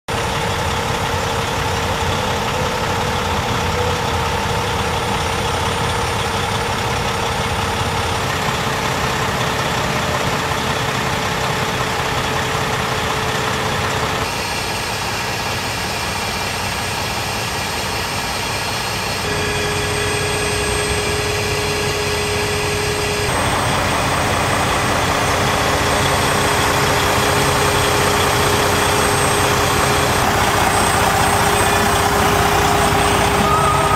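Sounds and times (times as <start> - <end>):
truck diesel engine idling: 0.1 - 33.9.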